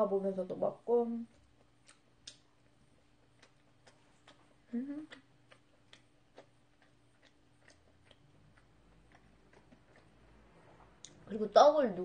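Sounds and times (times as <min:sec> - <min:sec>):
soft mouth clicks chewing: 0:01.3 - 0:11.2.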